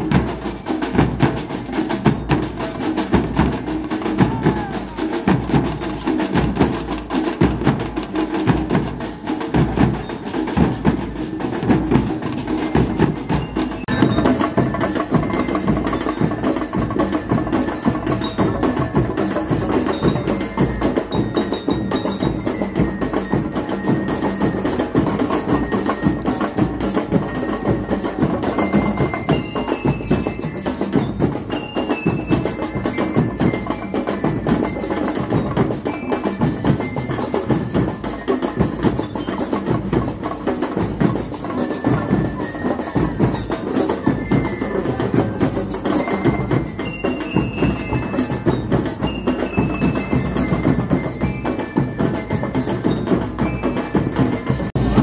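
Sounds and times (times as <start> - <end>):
drums beating: 0.0 - 55.0
bell lyre melody: 4.9 - 55.0.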